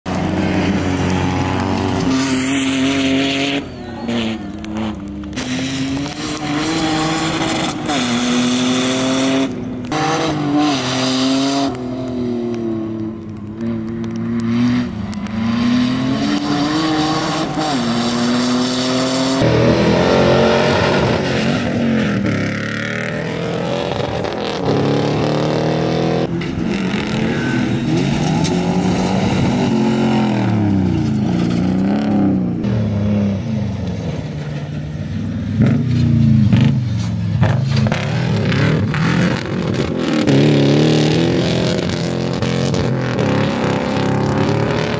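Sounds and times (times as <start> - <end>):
race vehicle engines revving: 0.0 - 44.9.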